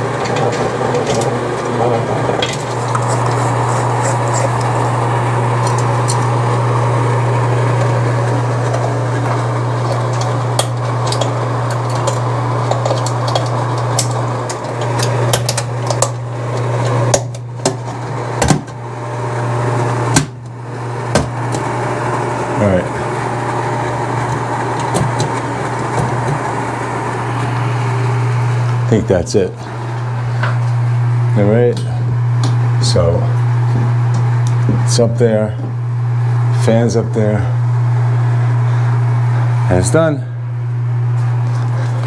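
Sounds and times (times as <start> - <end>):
exhaust fan humming: 0.0 - 42.0.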